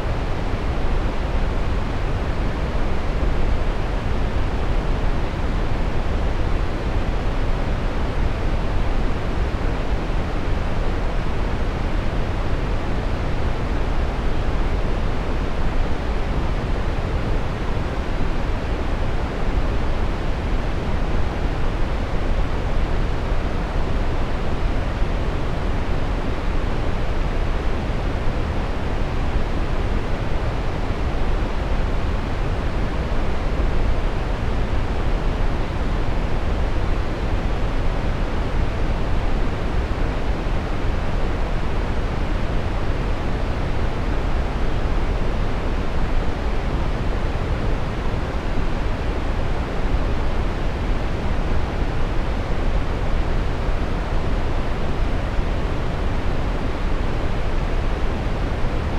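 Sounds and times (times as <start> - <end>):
brown noise hiss: 0.0 - 58.9.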